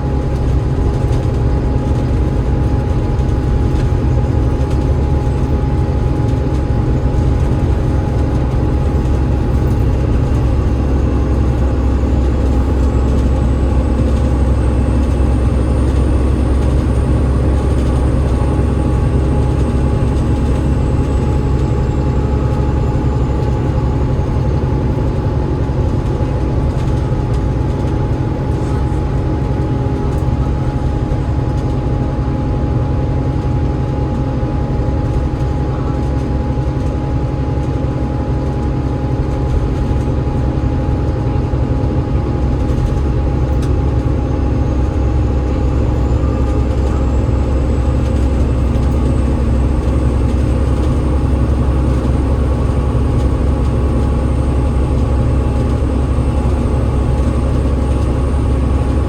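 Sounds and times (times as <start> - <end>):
steady whine: 0.0 - 33.0, 33.6 - 59.0
bus engine and road drone: 0.0 - 59.0.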